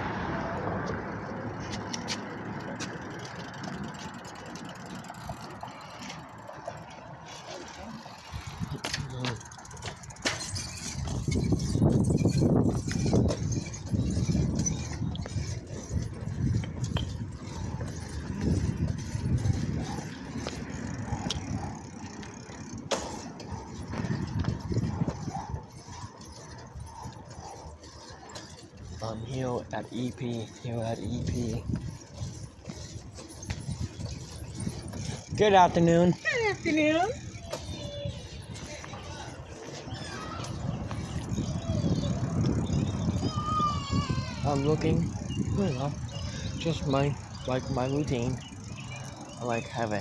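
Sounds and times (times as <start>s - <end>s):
bicycle road rumble: 0.0s - 50.0s
wind: 0.0s - 50.0s
sharp clicks and rattles: 1.2s - 50.0s.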